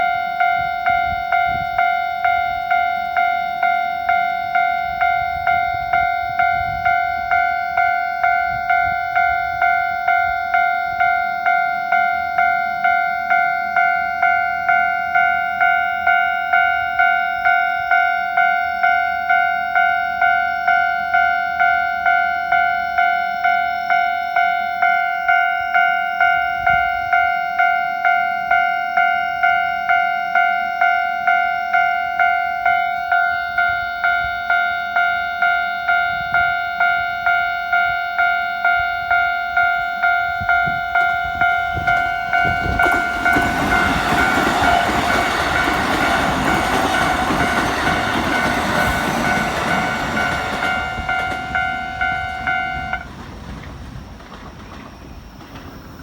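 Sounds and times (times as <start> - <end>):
level crossing warning bell: 0.0 - 56.0.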